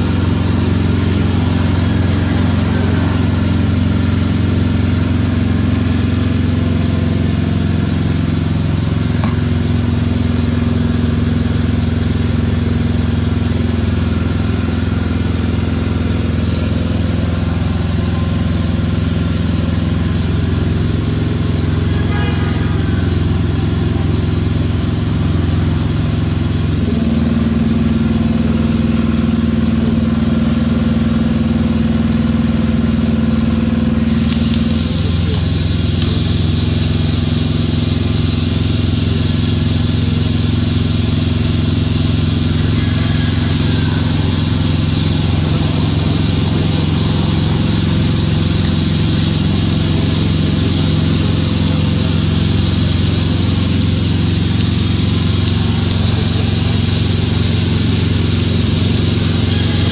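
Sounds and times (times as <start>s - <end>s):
motor engine humming: 0.0s - 59.9s.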